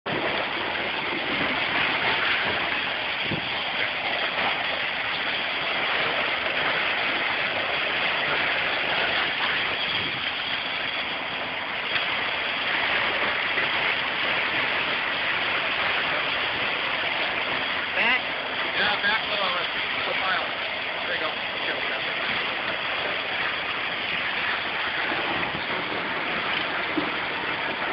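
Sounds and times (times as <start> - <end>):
concrete pump engine drone: 0.1 - 27.9.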